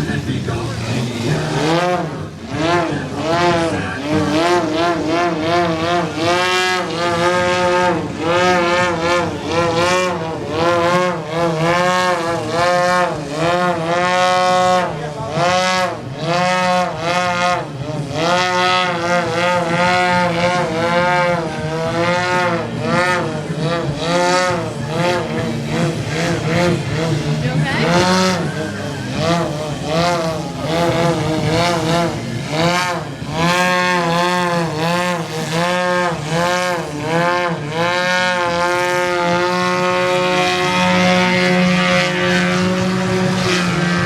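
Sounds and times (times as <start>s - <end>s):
model airplane engine revving: 0.0s - 44.0s.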